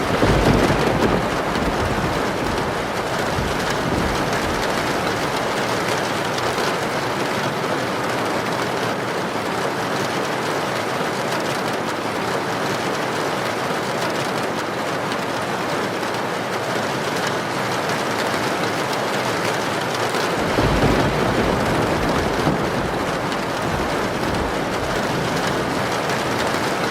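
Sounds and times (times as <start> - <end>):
heavy rain: 0.0 - 26.9
wind: 0.0 - 26.9.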